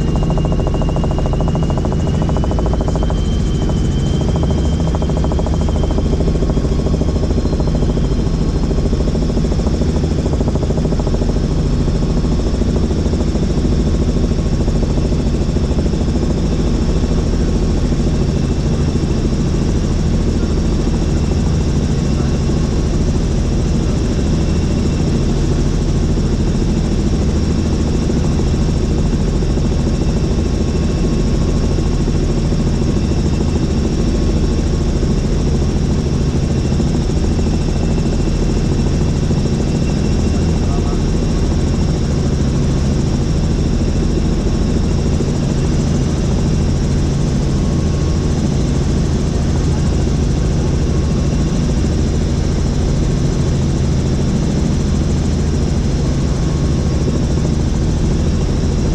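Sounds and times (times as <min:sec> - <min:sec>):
helicopter rotor and engine drone: 0:00.0 - 0:58.9.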